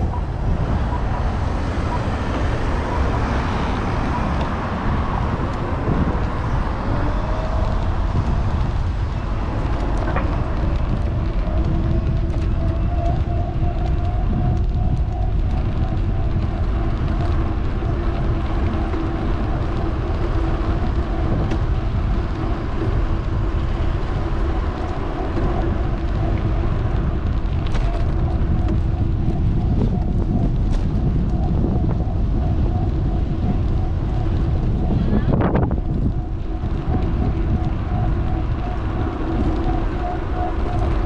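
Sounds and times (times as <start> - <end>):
road rumble: 0.0 - 41.0
wind on microphone: 0.0 - 41.0.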